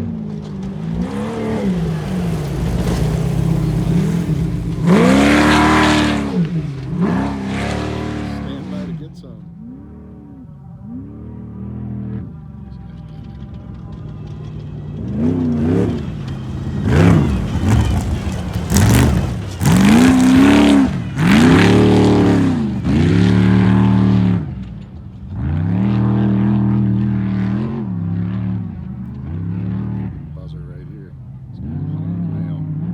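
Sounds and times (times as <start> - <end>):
racing engine revving hard: 0.0 - 12.4, 15.0 - 24.7, 25.3 - 32.9.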